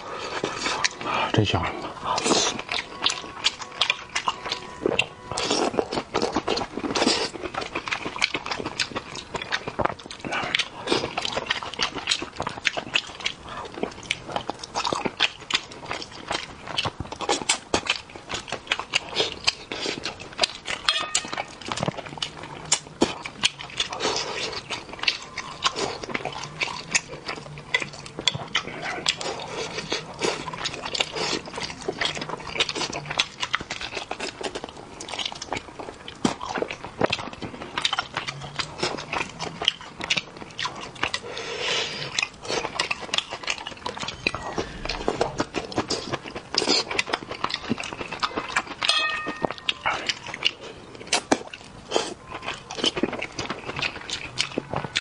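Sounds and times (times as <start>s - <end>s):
wet chewing and lip smacks: 0.0s - 55.0s.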